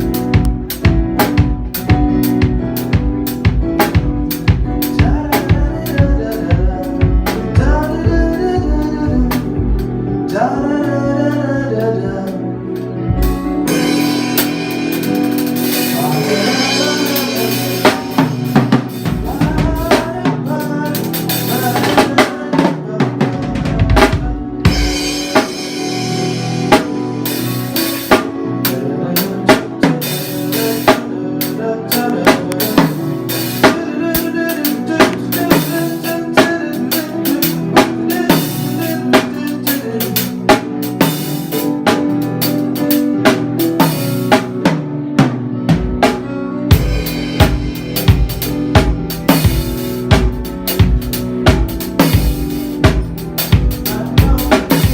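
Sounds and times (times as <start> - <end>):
drum kit playing a beat: 0.0 - 10.4, 12.2 - 54.9
held instrument chords: 0.0 - 54.9.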